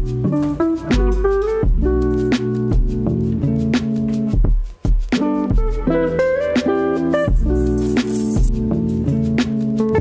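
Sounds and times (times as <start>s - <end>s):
plucked string instrumental music: 0.0s - 10.0s.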